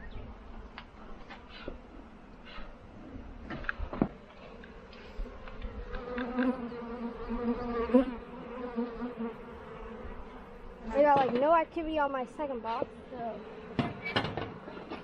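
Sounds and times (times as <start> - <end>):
honey bees buzzing: 0.3 - 15.0.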